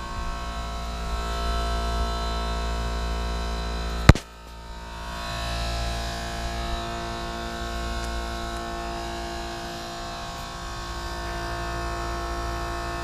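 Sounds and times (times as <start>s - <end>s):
air conditioning units humming: 0.0s - 13.0s.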